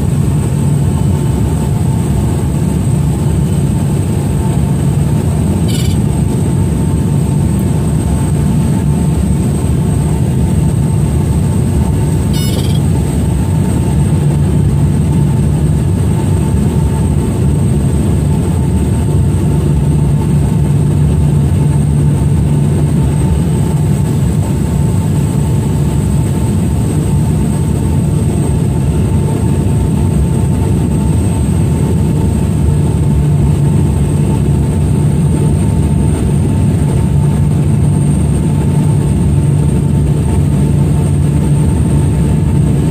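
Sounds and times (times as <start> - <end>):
propeller aircraft engine drone: 0.0 - 42.9.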